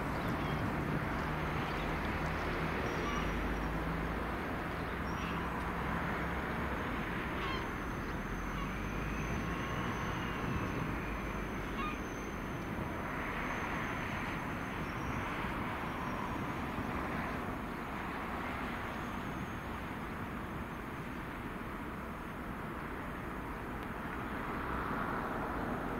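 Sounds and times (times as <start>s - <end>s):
distant diesel locomotive droning: 0.0s - 22.6s.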